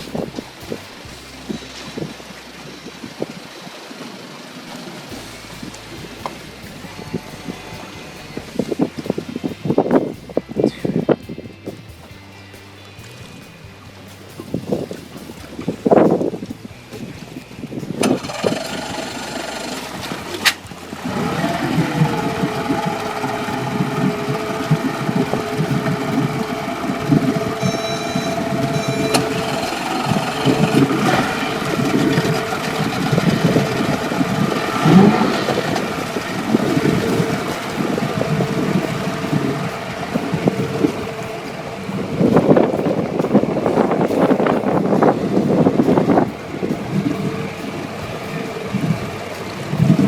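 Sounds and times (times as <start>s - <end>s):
boat engine running: 0.0s - 50.0s
wind on microphone: 0.0s - 50.0s.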